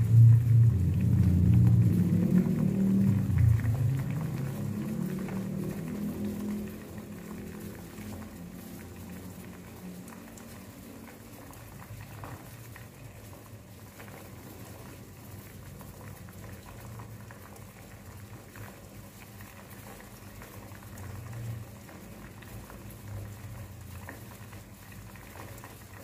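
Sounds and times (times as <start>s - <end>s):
water boiling in a saucepan: 0.0s - 26.0s.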